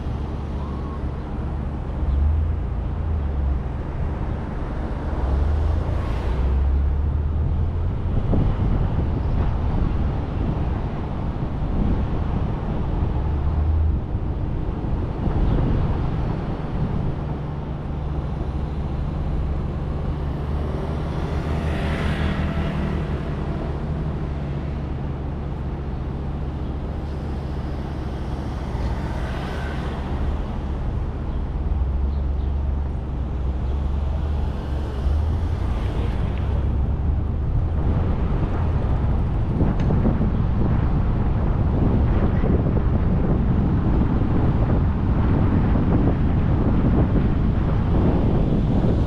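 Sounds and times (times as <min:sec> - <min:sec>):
car engine hum: 0:00.0 - 0:49.0
road noise: 0:00.0 - 0:49.0.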